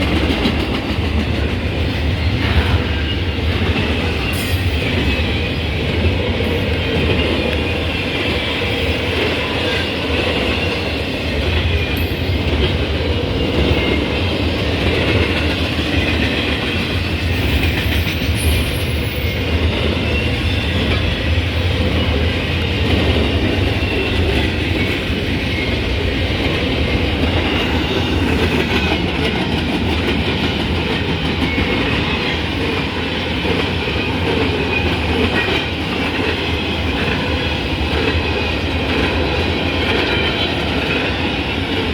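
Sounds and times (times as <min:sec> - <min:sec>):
train rumbling on rails: 0:00.0 - 0:41.9.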